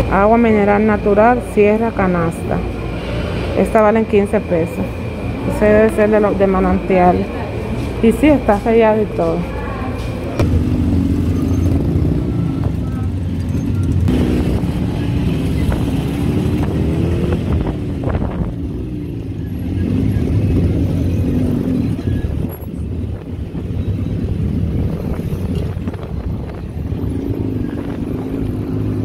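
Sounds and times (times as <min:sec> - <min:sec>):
car engines nearby: 0:00.0 - 0:29.0
motorcycle engine: 0:00.0 - 0:29.0
vehicle engine running: 0:00.0 - 0:29.0.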